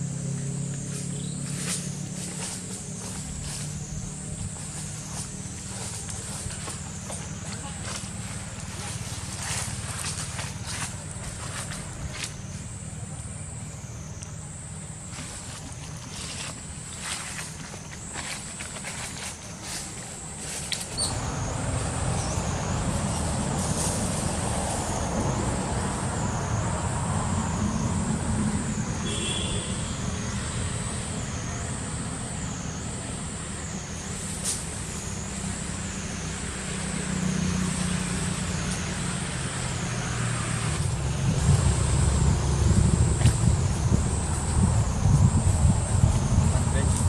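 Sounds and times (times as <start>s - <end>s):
engine rumbling: 0.0s - 47.0s.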